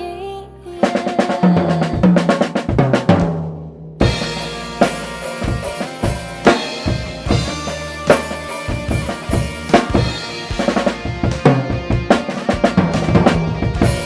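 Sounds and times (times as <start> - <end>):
pop backing track chords: 0.0 - 3.4, 4.0 - 14.0
drum kit playing a steady beat: 0.8 - 14.0.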